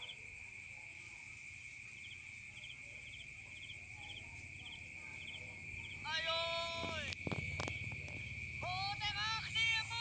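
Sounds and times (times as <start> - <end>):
insect chirps: 0.0 - 10.0
insect chorus drone: 0.0 - 10.0.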